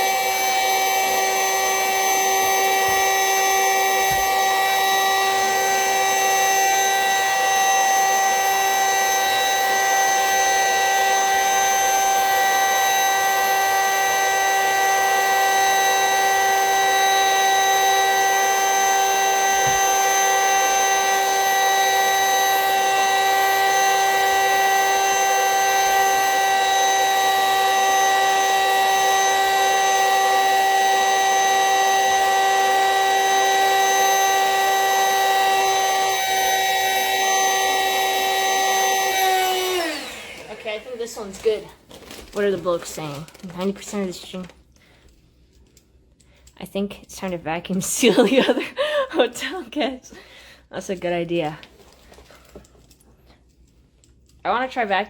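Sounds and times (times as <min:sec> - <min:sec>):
vacuum cleaner whine: 0:00.0 - 0:45.0, 0:47.9 - 0:50.6.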